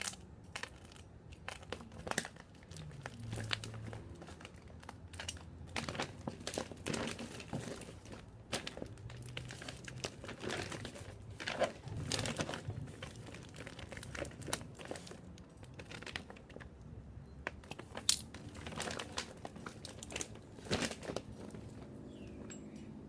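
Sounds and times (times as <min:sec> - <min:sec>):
parcel wrapping crinkling: 0:00.0 - 0:16.8, 0:17.4 - 0:22.4.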